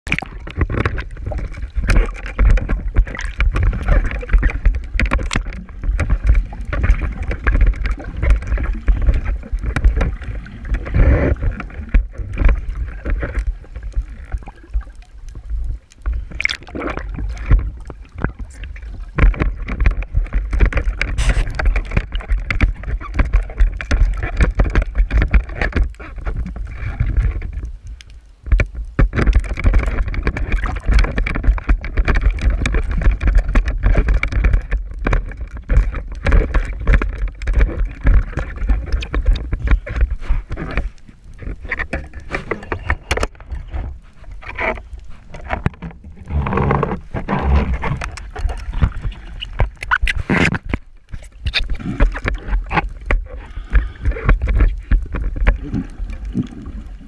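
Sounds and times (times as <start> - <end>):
rumble and crackle: 0.0 - 57.0
water sloshing and gurgling: 0.0 - 57.0.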